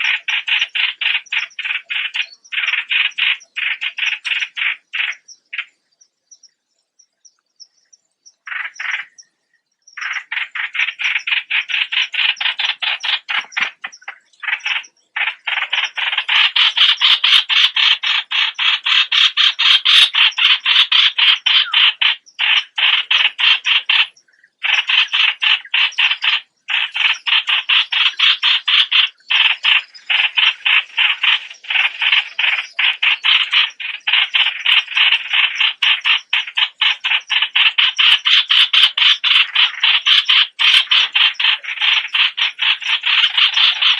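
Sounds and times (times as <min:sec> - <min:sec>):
bird singing fast rattle: 0:00.0 - 0:43.9.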